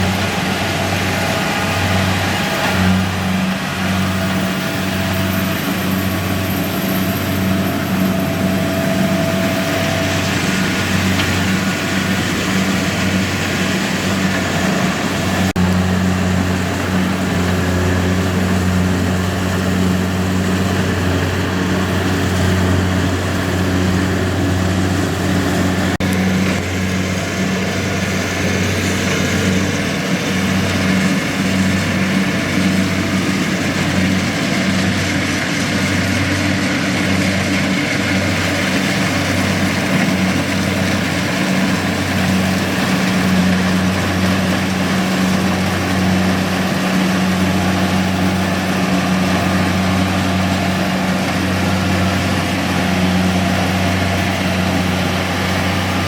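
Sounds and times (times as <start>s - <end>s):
diesel engine humming: 0.0s - 56.0s
machinery noise: 0.0s - 56.0s.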